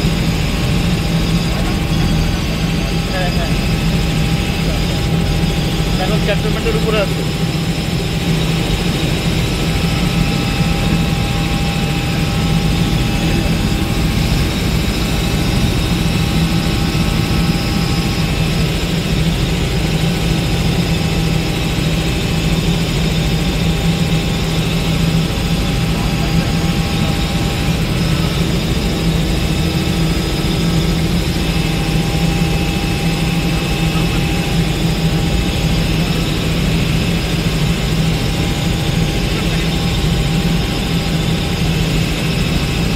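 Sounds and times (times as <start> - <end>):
helicopter rotor beat: 0.0 - 42.9.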